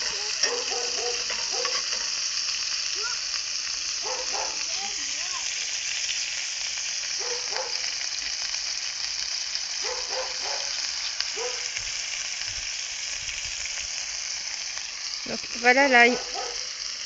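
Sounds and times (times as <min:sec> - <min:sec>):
meat and garlic sizzling in oil: 0:00.0 - 0:17.0.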